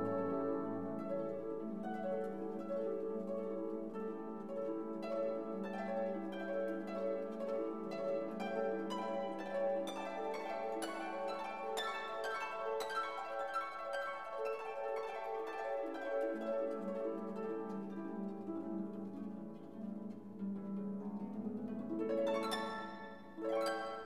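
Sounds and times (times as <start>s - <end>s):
plucked string melody: 0.0s - 24.0s.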